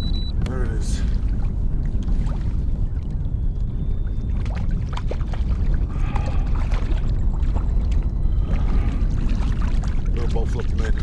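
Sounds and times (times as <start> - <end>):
low rumble: 0.0 - 11.0
wind buffeting microphone: 0.0 - 11.0
water splashes: 0.5 - 11.0.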